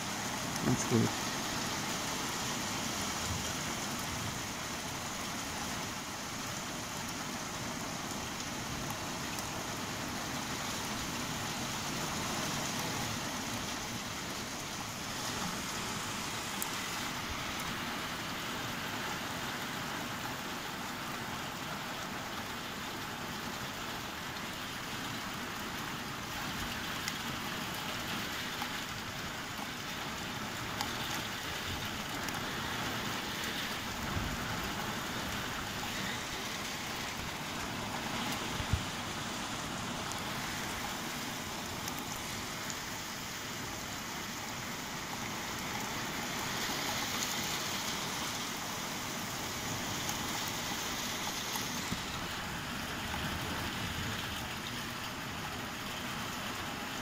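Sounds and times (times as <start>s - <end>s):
rain pouring: 0.0s - 57.0s.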